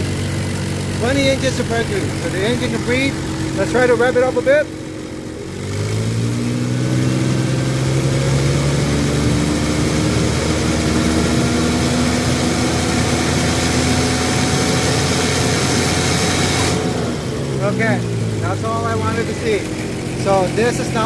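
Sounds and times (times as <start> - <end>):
exhaust blowing out: 0.0 - 21.0
forklift engine revving: 0.0 - 21.0.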